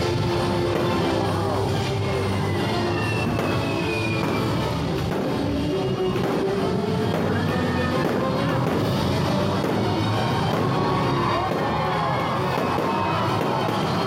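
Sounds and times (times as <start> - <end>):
loud show music with drums: 0.0 - 14.0.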